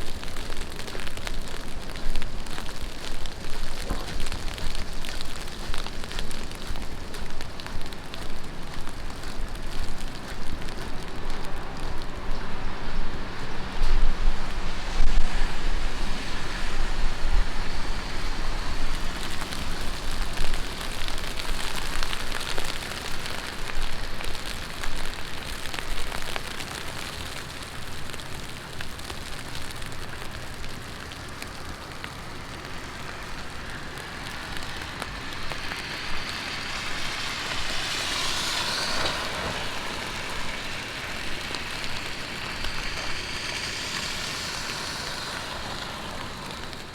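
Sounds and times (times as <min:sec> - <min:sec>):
car tyres hissing on wet road: 0:00.0 - 0:46.9
heavy rain hissing: 0:00.0 - 0:46.9.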